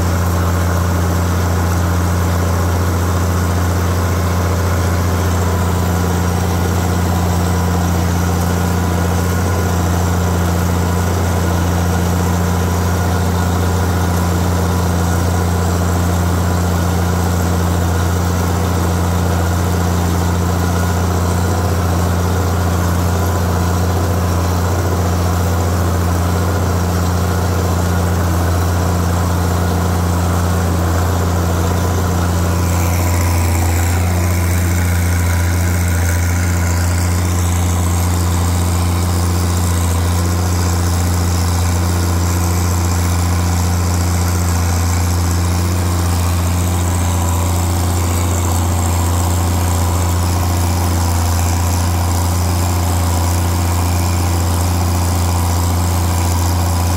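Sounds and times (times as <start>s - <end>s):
tractor engine under load: 0.0s - 56.9s.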